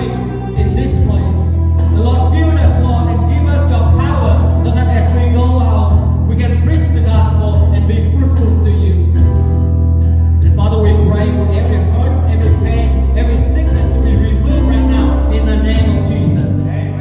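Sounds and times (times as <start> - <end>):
heavy bass: 0.0 - 17.0
live band music with singing: 0.0 - 17.0.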